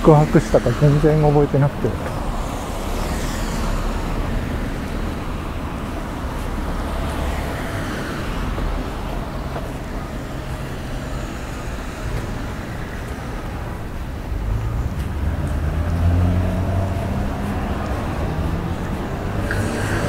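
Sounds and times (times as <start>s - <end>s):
cars driving past: 0.0s - 20.0s.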